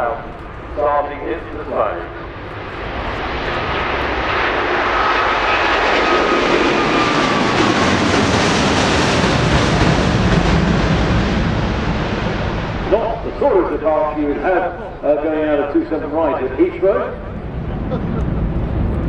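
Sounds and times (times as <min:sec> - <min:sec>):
jet airliner climbing: 0:00.0 - 0:19.0
jet engine whine falling in pitch: 0:00.0 - 0:19.0.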